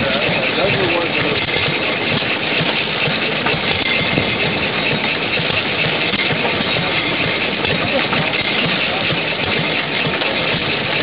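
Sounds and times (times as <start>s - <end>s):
old engines running: 0.0s - 11.0s.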